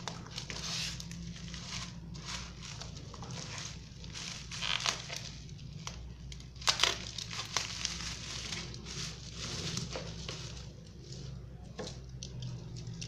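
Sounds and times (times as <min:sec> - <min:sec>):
bubble wrap crinkling and crackling: 0:00.0 - 0:13.0.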